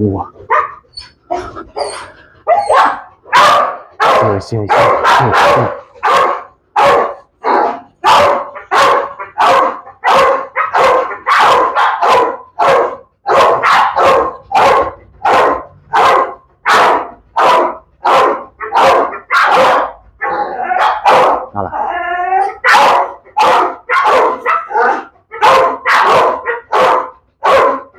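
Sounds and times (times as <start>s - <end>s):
dog barking: 0.2s - 21.7s, 22.4s - 27.9s.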